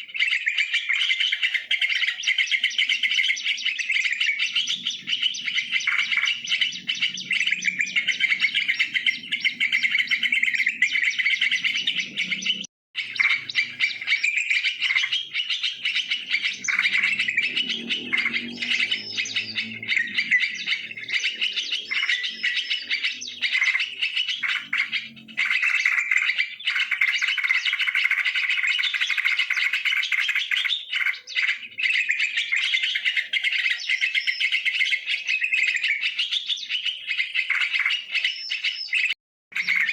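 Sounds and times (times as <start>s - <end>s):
birds chirping and chattering: 0.0s - 39.9s.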